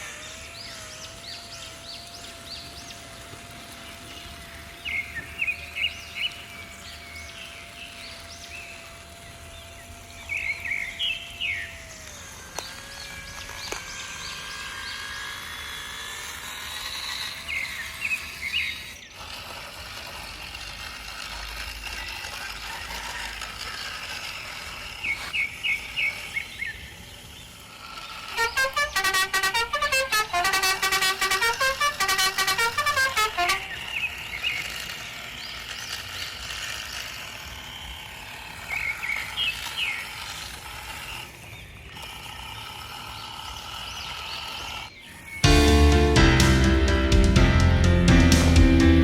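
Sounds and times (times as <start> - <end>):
outdoor background: 0.0 - 49.0.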